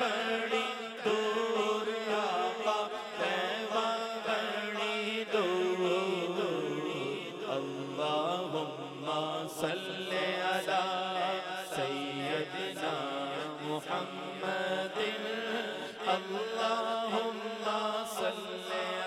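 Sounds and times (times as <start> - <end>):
man chanting through a microphone: 0.0 - 19.0.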